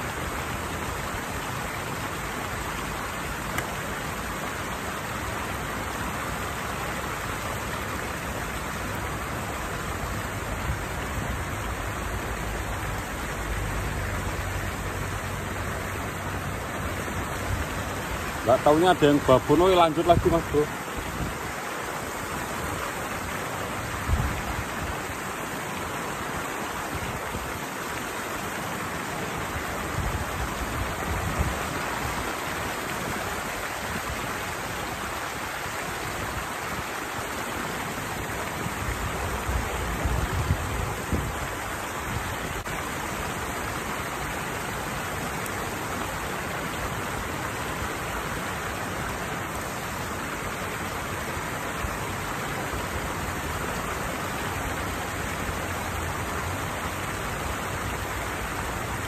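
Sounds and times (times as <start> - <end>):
water pouring over cascade: 0.0 - 59.0.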